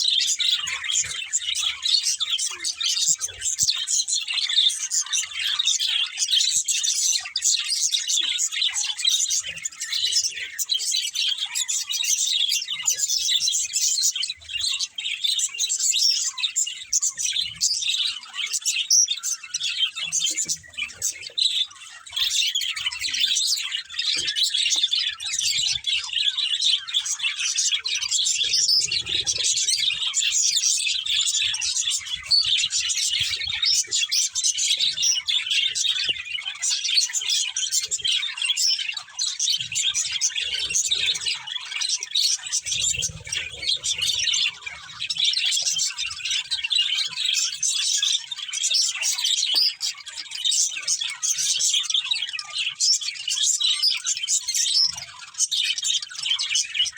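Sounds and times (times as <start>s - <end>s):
budgerigars chirping and chattering: 0.0s - 56.9s.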